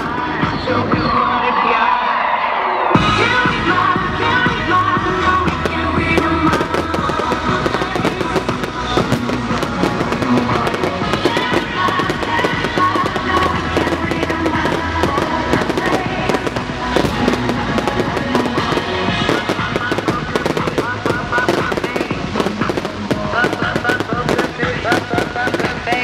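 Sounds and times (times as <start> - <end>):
fireworks bursting and crackling: 0.0 - 1.2, 3.0 - 26.0.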